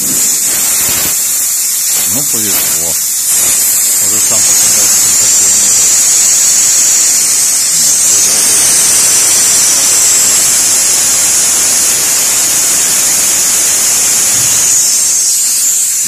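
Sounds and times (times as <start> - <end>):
loud gas hiss: 0.0 - 16.0.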